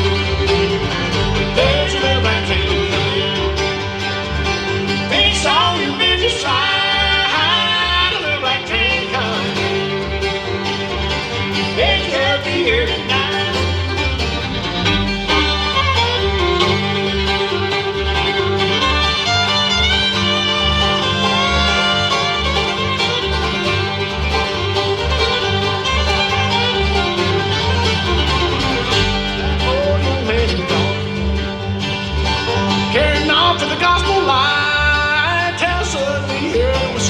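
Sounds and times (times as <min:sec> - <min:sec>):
banjo: 0:00.0 - 0:37.0
fiddle: 0:00.0 - 0:37.0
guitar: 0:00.0 - 0:37.0
mandolin: 0:00.0 - 0:37.0
plucked upright bass: 0:00.0 - 0:37.0.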